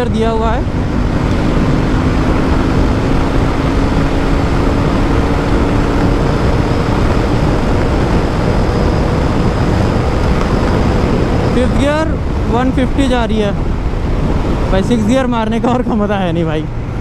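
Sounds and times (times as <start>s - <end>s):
motorcycle engine at high revs: 0.0s - 14.8s
wind rush on microphone: 0.0s - 17.0s.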